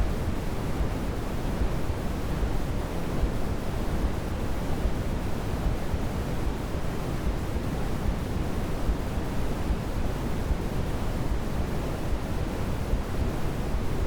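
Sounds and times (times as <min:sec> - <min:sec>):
steady white noise: 0:00.0 - 0:14.0.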